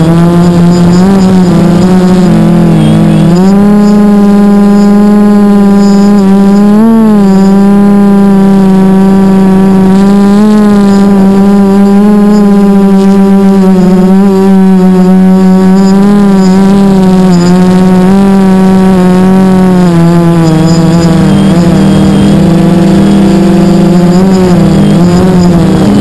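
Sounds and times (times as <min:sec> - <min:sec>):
drone motors and propellers humming: 0:00.0 - 0:26.0.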